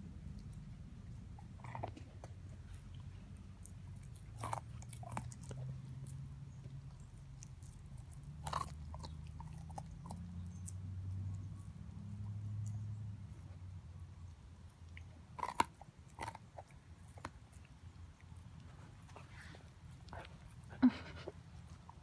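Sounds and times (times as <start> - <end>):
dog gnawing on bone: 0.0 - 13.6, 14.2 - 20.8
low steady hum: 0.0 - 22.0.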